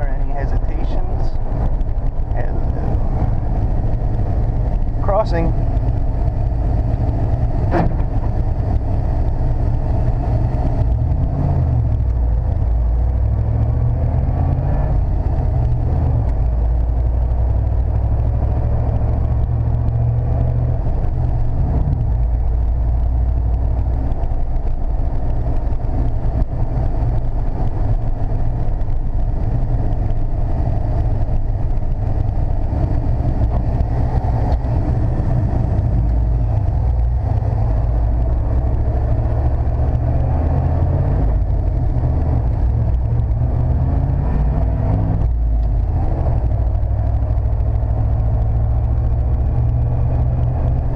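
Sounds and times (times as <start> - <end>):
pickup truck engine: 0.0 - 50.9
road rumble: 0.0 - 50.9.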